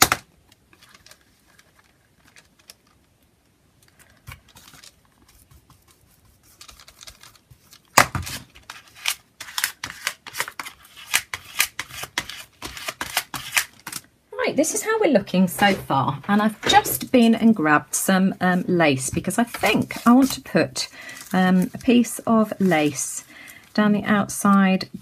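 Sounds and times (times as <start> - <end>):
faint paper rustling: 0.6 - 14.0, 14.6 - 25.0.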